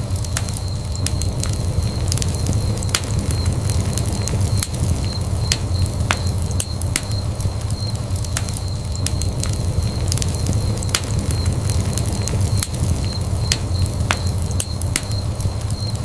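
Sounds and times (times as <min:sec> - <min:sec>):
low rumble of burning: 0:00.0 - 0:16.0
wood fire pops and snaps: 0:00.0 - 0:16.0.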